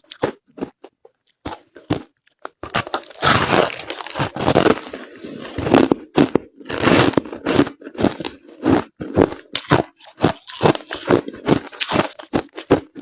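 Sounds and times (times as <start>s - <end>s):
crushed ice being chewed: 0.0s - 13.0s.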